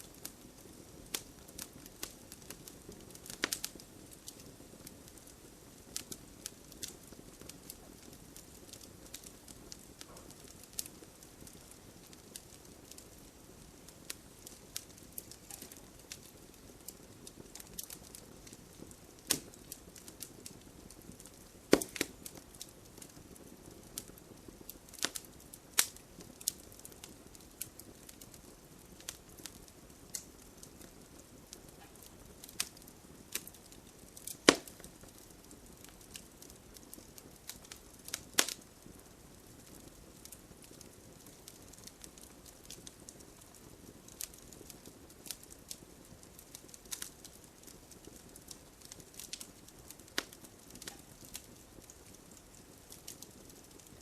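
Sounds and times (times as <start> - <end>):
campfire crackling: 0.0 - 54.0
faint steady hiss: 0.0 - 54.0.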